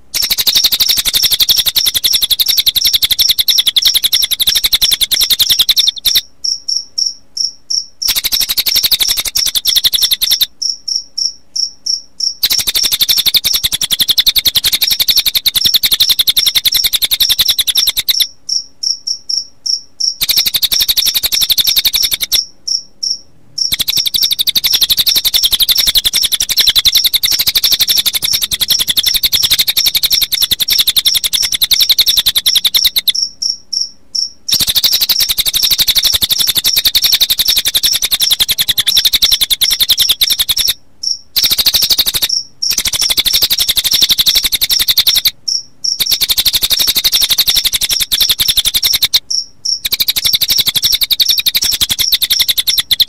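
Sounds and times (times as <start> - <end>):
birdsong: 0.0 - 7.2, 8.0 - 11.3, 12.4 - 18.7, 19.3 - 53.0
crickets chirping: 0.0 - 53.0.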